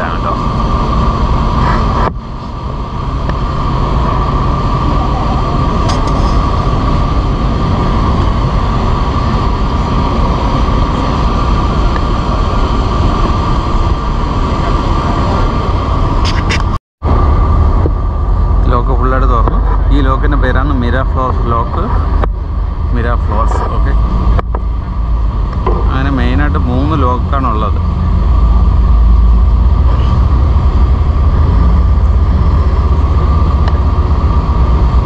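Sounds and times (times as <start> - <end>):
constant hum: 0.0 - 35.0
wind rumbling on microphone: 0.0 - 35.0.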